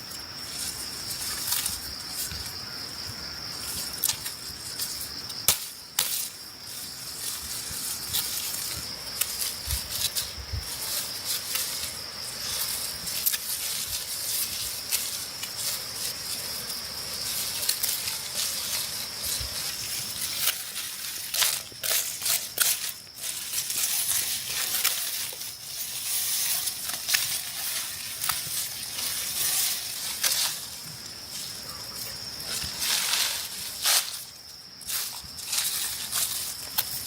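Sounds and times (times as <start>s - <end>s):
dry straw crackling and rustling: 0.0s - 37.0s.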